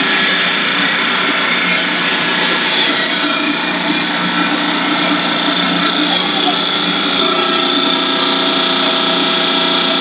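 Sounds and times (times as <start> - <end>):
extruder machinery running: 0.0 - 10.0
steady humming tones: 0.0 - 10.0.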